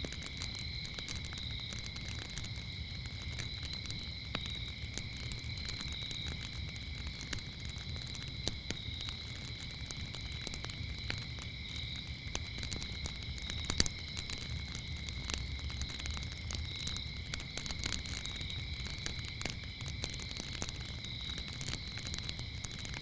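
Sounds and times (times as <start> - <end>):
crickets chirping: 0.0 - 23.0
wood fire crackling and popping: 0.0 - 23.0.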